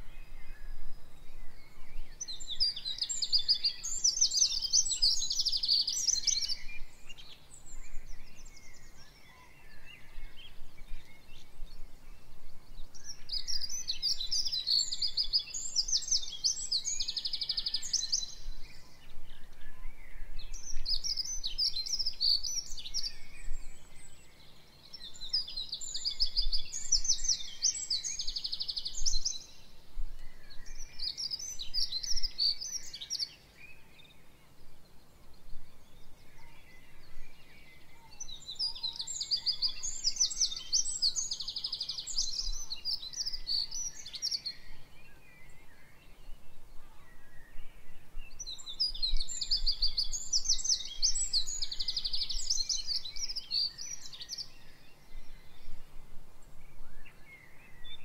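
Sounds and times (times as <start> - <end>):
faint background hiss: 0.0 - 58.0
songbird trilling and chirping: 0.0 - 58.0.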